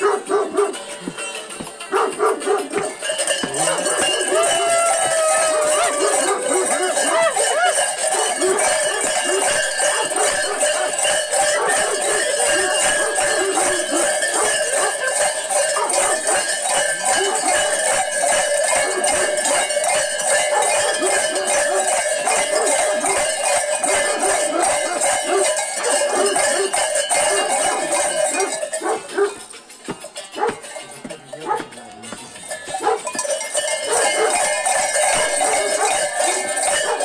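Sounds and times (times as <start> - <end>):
metal animal bells clanging: 0.0 - 37.0.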